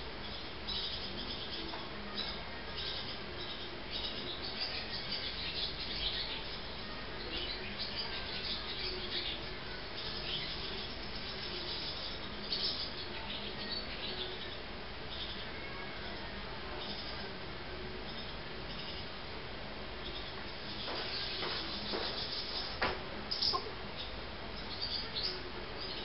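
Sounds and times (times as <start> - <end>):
swallows twittering: 0.2 - 16.2, 20.0 - 26.0.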